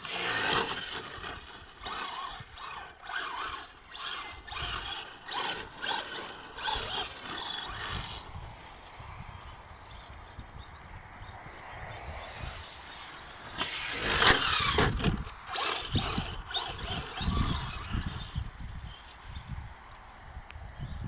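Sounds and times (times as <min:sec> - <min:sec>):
rc truck electric motor whining: 0:00.0 - 0:21.0.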